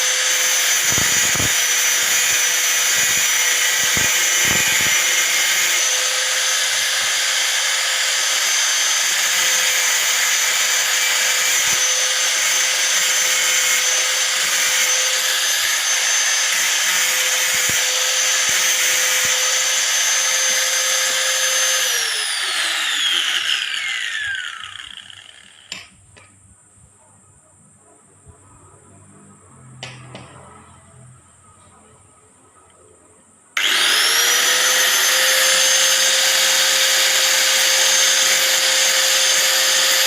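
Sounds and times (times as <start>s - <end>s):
angle grinder grinding metal: 0.0s - 25.9s, 33.6s - 40.0s
grinder disc spinning down: 0.0s - 25.9s, 33.6s - 40.0s.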